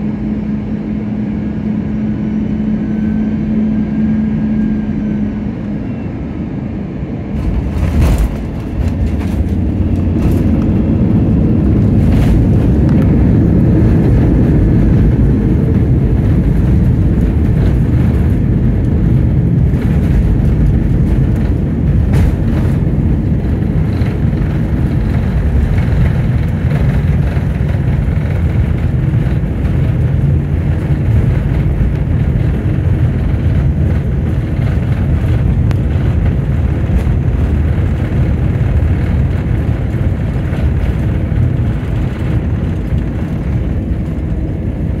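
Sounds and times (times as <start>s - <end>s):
airliner engines and wheels rumbling: 0.0s - 45.0s.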